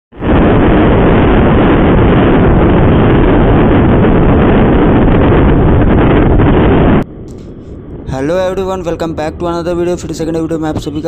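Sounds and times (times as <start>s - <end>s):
wind rush on microphone: 0.1s - 11.0s.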